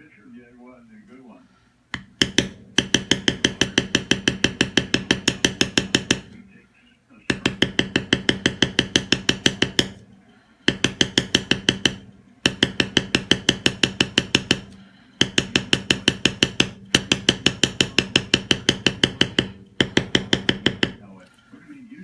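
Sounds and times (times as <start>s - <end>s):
mallet tapping leather stamping tool: 1.9s - 6.4s, 7.3s - 21.1s.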